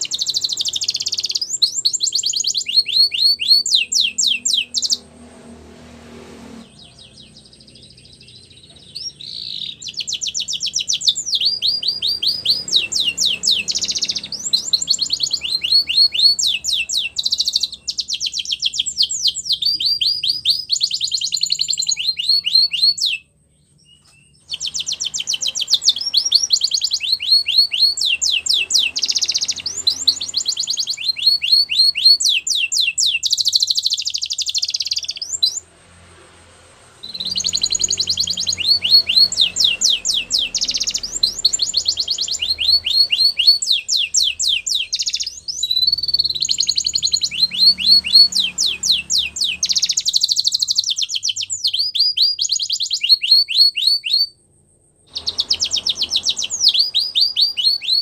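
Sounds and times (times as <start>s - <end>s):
canary singing trills: 0.0s - 5.7s, 6.4s - 54.4s, 55.0s - 58.0s.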